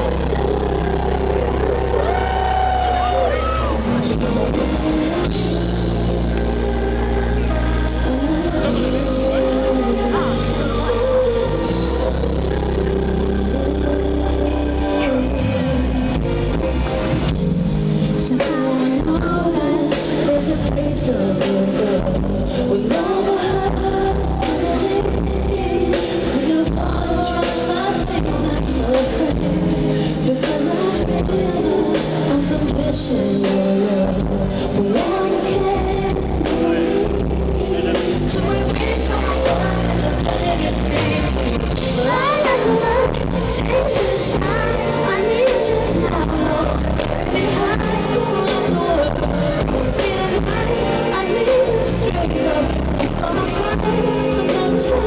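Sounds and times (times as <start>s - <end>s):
live band music: 0.0s - 55.0s
person singing: 0.0s - 55.0s.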